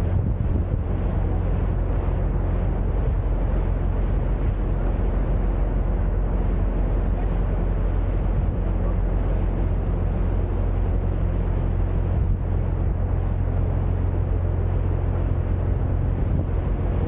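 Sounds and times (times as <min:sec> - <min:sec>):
boat engine humming: 0:00.0 - 0:17.0
water noise: 0:00.0 - 0:17.0.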